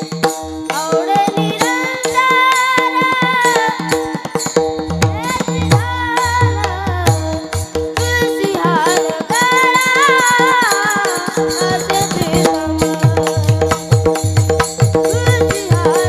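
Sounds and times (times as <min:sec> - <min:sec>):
boy singing: 0:00.0 - 0:16.0.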